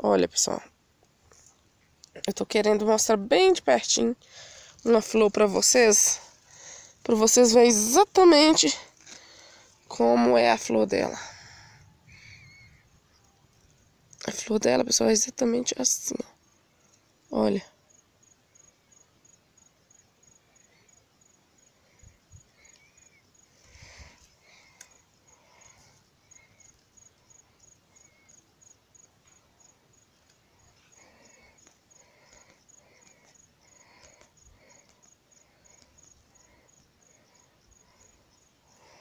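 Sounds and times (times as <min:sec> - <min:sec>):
insect chirping: 0:00.0 - 0:39.0.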